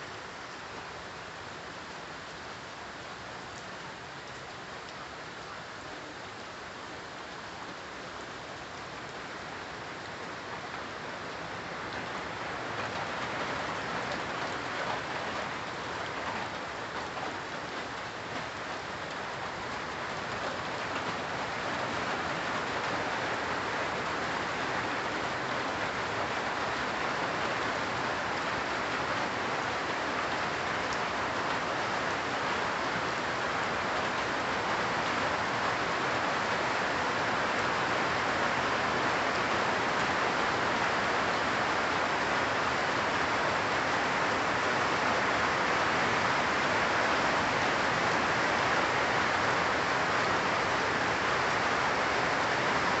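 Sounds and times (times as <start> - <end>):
rain falling on leafy trees: 0.0 - 53.0.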